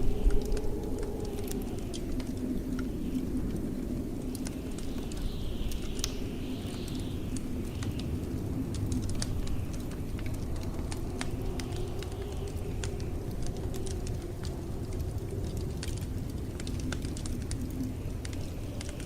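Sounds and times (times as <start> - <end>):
howling wind: 0.0 - 19.0
low rumble of blizzard wind: 0.0 - 19.0
wood fire crackling and popping: 0.0 - 19.0.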